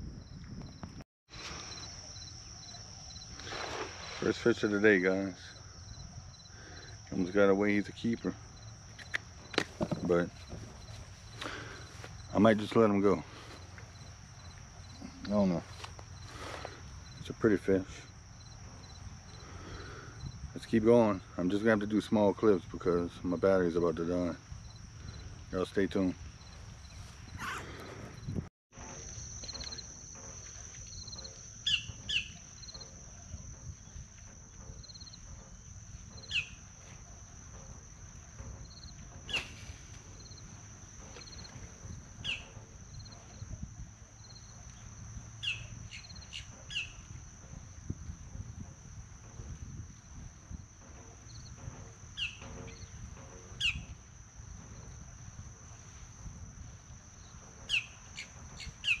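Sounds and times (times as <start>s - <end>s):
low wind rumble: 0.0s - 1.0s, 1.7s - 28.5s, 31.0s - 59.0s.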